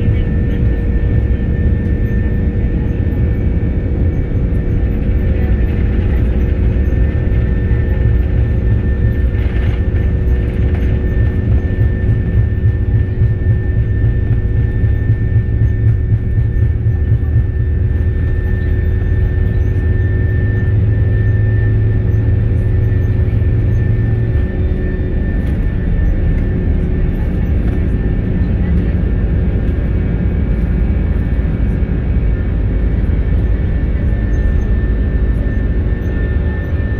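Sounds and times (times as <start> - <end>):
jet engines rumbling and whining: 0.0 - 36.9.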